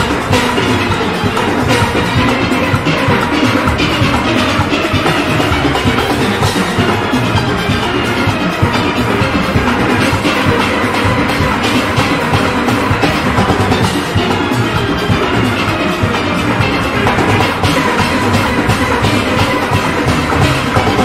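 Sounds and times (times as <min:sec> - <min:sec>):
drum rhythm section: 0:00.0 - 0:21.0
steelpans playing: 0:00.0 - 0:21.0.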